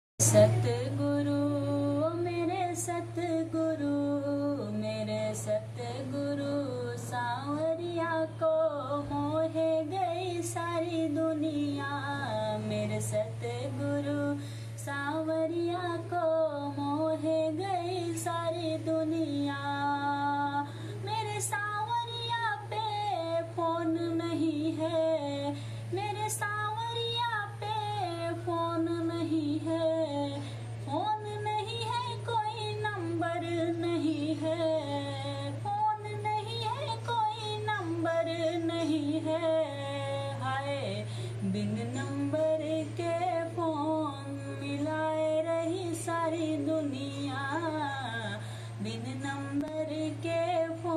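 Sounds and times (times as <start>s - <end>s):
woman singing devotional song: 0.2s - 50.9s.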